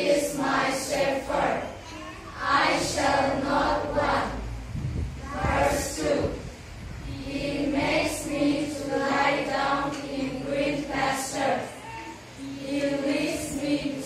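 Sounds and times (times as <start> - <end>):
children singing in chorus: 0.0 - 4.6, 5.2 - 6.4, 7.0 - 14.0.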